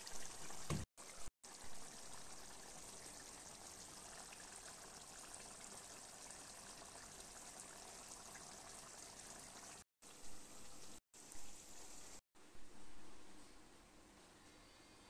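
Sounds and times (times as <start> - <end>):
curry simmering in a pan: 0.0 - 12.2.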